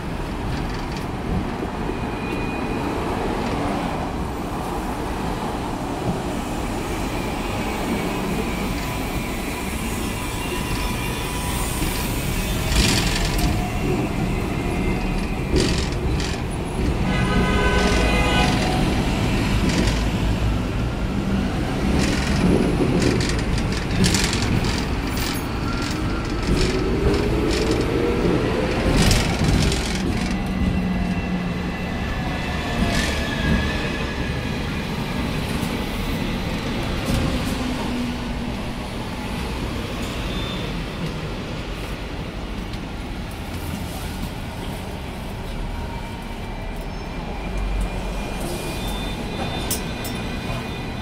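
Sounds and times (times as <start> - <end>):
tram wheels rumbling on rails: 0.0 - 51.0
tram whine: 0.0 - 51.0.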